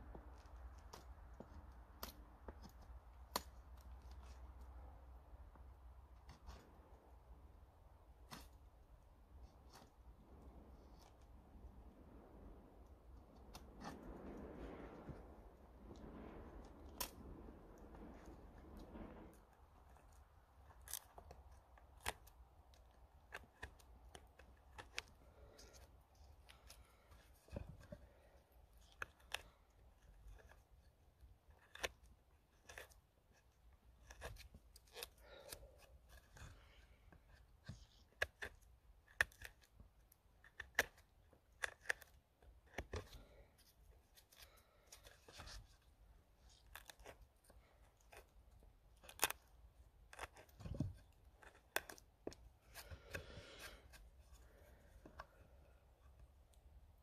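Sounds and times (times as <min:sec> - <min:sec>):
knife shaving wood: 0:00.0 - 0:57.0.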